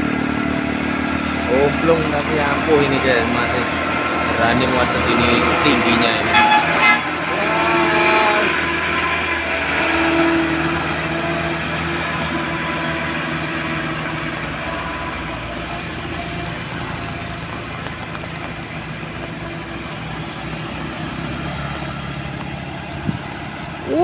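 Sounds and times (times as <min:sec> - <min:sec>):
truck engine running under load: 0:00.0 - 0:24.0.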